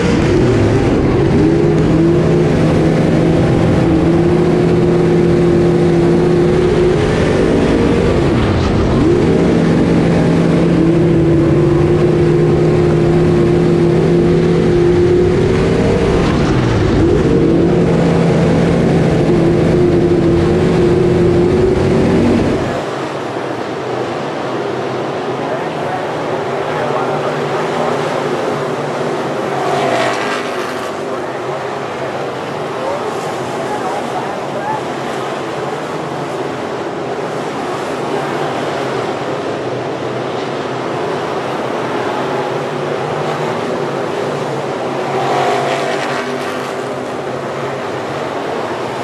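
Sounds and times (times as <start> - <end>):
race car engine revving: 0.0 - 22.9, 25.6 - 34.6, 37.5 - 49.0
distant race cars rumbling: 0.0 - 49.0.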